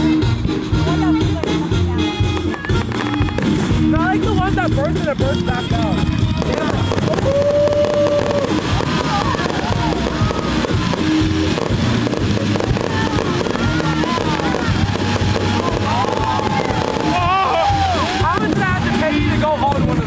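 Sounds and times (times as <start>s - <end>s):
fireworks crackling and banging: 0.0s - 20.0s
loud music: 0.0s - 20.0s.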